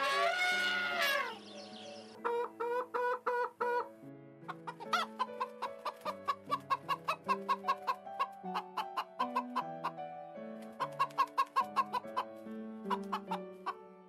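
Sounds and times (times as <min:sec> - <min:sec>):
chickens clucking: 0:00.0 - 0:13.8
quiet background music: 0:00.0 - 0:14.0.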